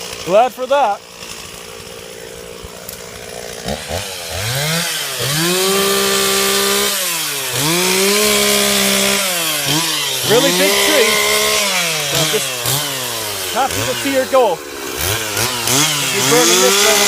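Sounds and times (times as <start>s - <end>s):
two-stroke chainsaw revving: 0.0s - 17.0s.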